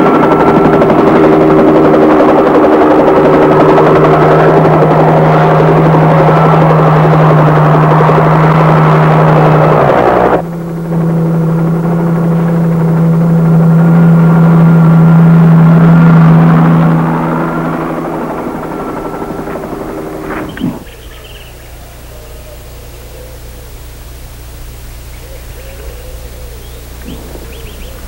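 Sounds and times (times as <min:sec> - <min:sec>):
constant low hum: 0:00.0 - 0:28.0
helicopter turbine and rotor drone: 0:00.0 - 0:28.0.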